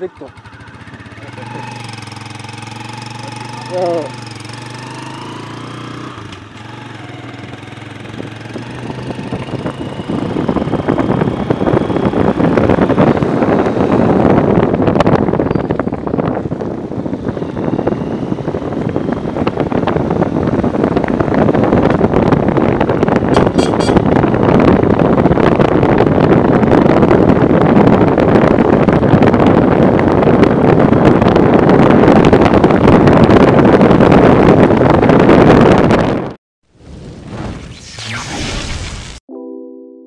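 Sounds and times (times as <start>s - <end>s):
motorcycle rumble: 0.0s - 39.2s
wind rushing against microphone: 0.0s - 39.2s.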